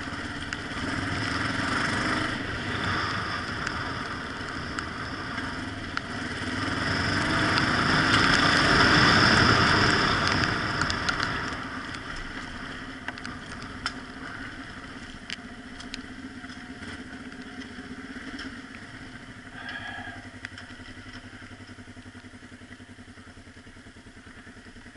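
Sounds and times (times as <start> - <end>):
motorcycle engine: 0.0 - 24.9.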